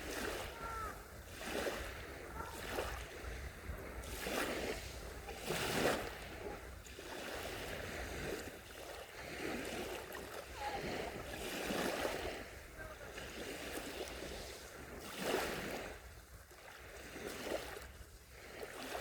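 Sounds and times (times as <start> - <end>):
small waves washing onto shore: 0.0 - 19.0.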